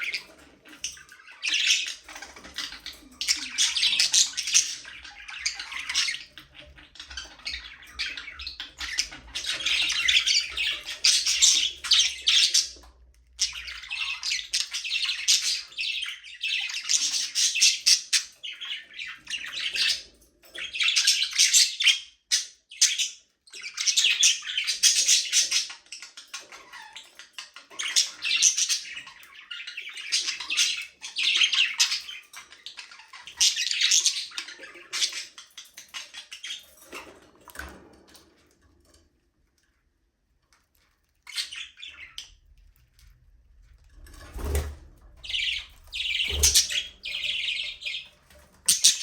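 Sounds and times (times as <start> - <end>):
budgerigars chattering and chirping: 0.0 - 37.1, 41.3 - 42.5, 44.3 - 49.0.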